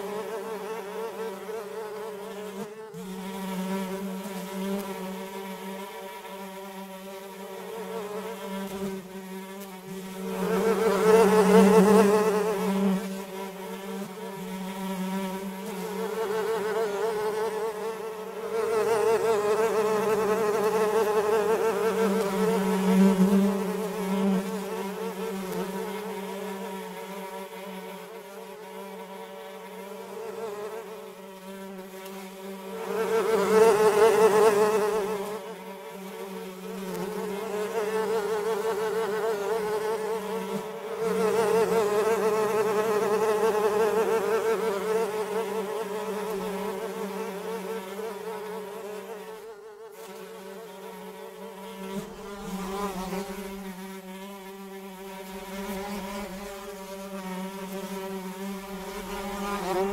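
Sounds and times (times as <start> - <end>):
fly buzzing: 0.0 - 59.9.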